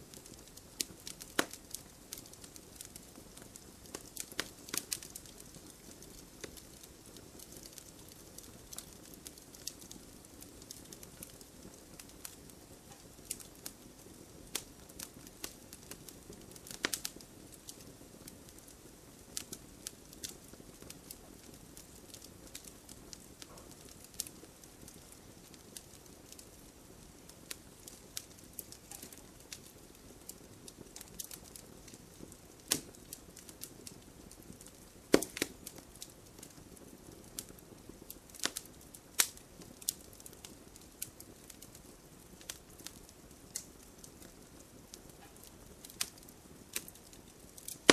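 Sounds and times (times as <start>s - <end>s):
low hiss of flames: 0.0s - 47.9s
wood fire crackling and popping: 0.0s - 47.9s.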